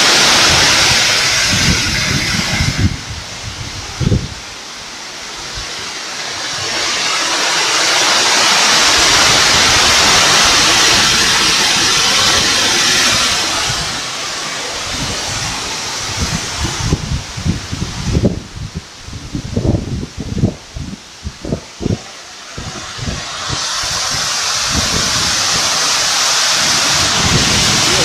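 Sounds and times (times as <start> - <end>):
hail and rain rushing: 0.0 - 28.0
wind buffeting microphone: 0.0 - 28.0.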